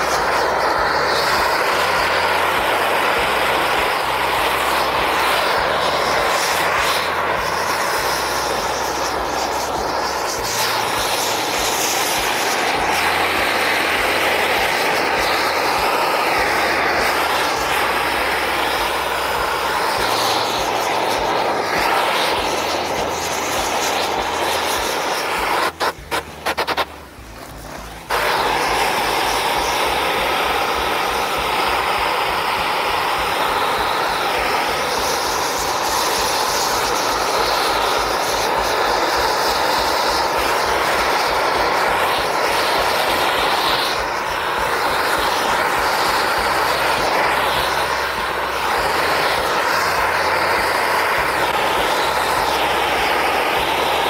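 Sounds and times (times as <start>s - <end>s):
propane torch roaring: 0.0s - 54.0s.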